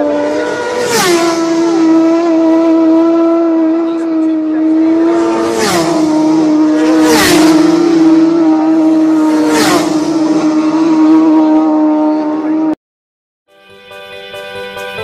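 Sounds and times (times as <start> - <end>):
continuous high engine note: 0.0 - 12.8
racing engines passing at speed: 0.0 - 12.8.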